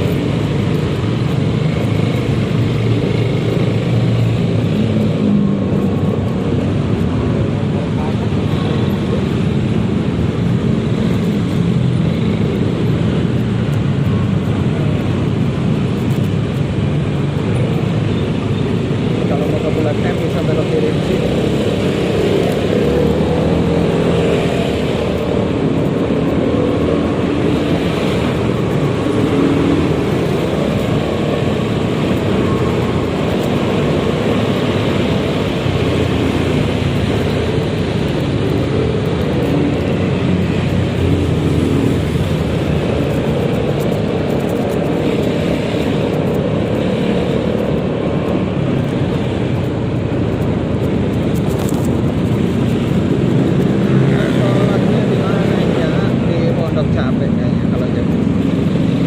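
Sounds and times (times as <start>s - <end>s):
scooter engine hum: 0.0s - 59.0s
surrounding traffic: 0.0s - 59.0s
wind rush on microphone: 0.0s - 59.0s.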